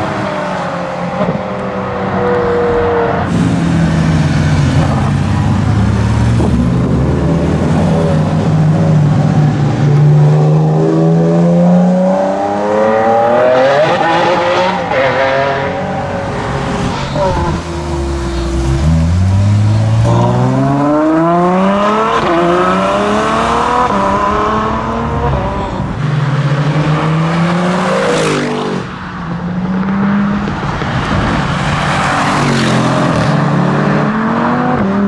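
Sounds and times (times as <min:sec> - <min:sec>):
car accelerating hard: 0:02.6 - 0:28.9, 0:29.5 - 0:35.0.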